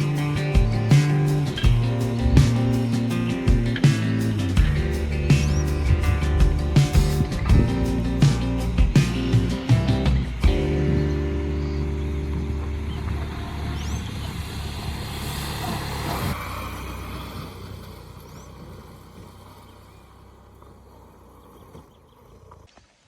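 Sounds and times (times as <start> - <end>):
motorcycle running: 0.0 - 22.0.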